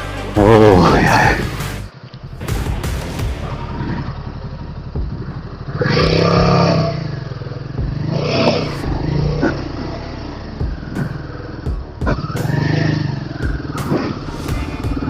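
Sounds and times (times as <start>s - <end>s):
motorcycle engine surging: 0.0s - 15.0s.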